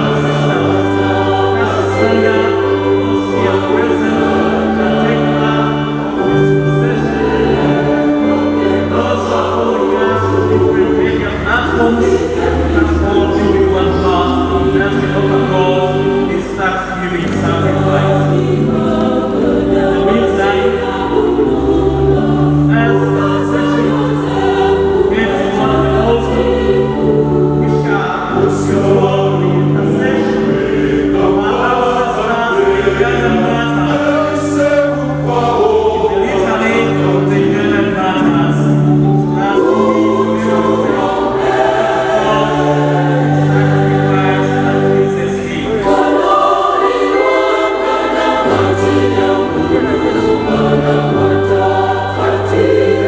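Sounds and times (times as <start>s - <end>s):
choir singing a hymn: 0.0s - 53.0s.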